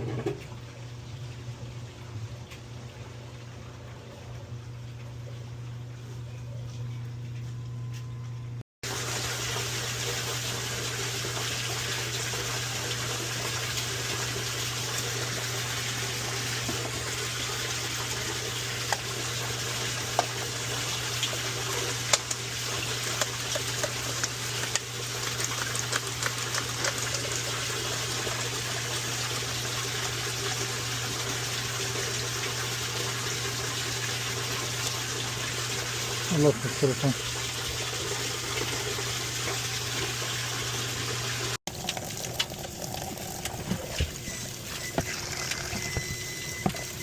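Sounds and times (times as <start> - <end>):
electric pump humming: 0.0 - 47.0.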